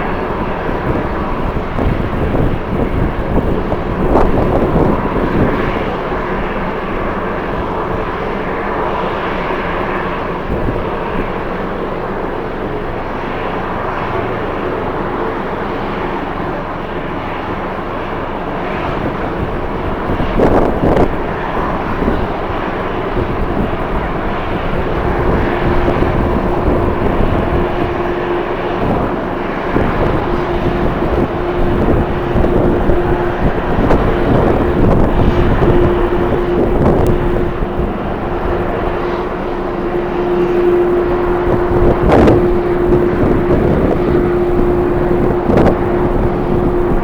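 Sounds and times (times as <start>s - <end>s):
jet engines running: 0.0s - 47.0s
steady hum: 0.0s - 47.0s
wind buffeting microphone: 0.0s - 47.0s.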